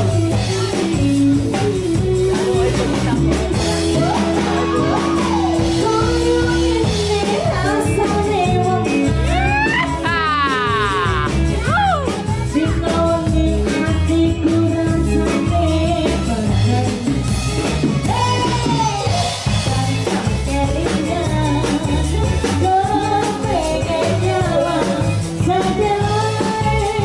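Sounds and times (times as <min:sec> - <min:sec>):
live band playing: 0:00.0 - 0:27.0
woman singing: 0:00.0 - 0:27.0.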